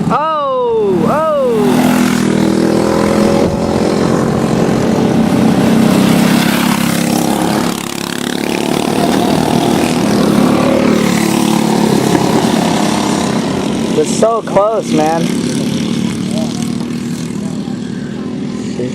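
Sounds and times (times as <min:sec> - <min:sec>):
racing kart engines at high revs: 0:00.0 - 0:18.9.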